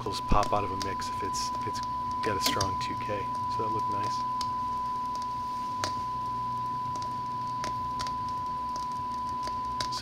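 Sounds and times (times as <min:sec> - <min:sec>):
sine-wave test tone: 0:00.0 - 0:10.0.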